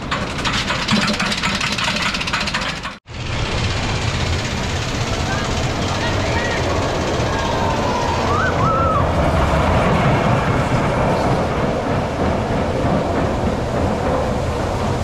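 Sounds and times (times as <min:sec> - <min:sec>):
roller coaster wheels rolling on rails: 0:00.0 - 0:15.0.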